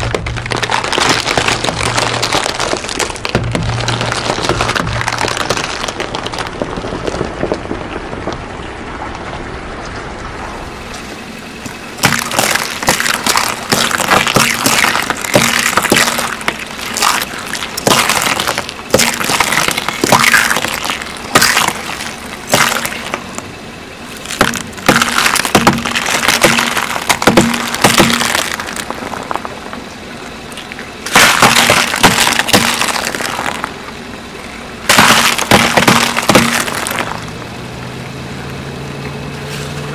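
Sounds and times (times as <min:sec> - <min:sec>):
eggshells crunching under a tyre: 0:00.0 - 0:39.9.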